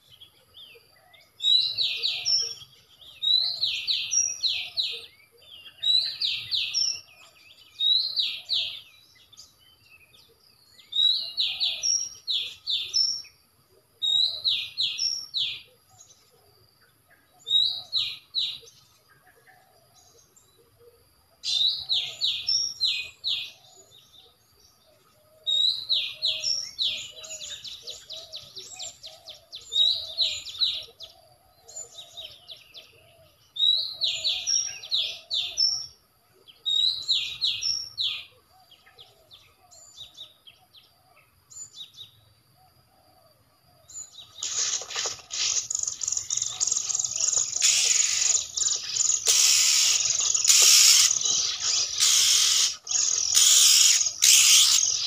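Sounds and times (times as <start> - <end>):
bird song from a speaker: 0.0 - 55.0.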